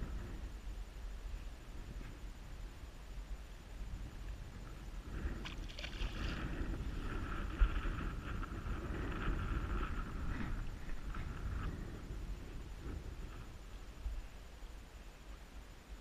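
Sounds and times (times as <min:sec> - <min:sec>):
low rumble of wind and water: 0:00.0 - 0:16.0.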